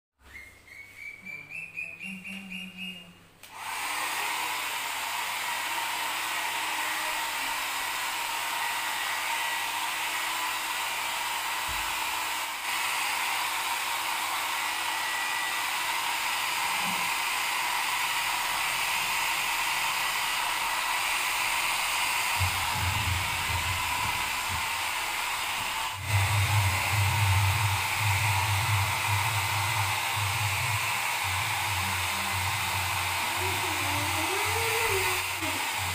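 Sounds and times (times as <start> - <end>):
hair dryer blowing: 3.4 - 35.9.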